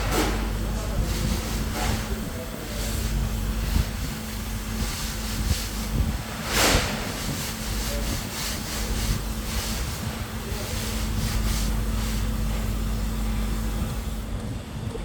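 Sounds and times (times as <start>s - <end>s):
low hum of site noise: 0.0s - 15.0s.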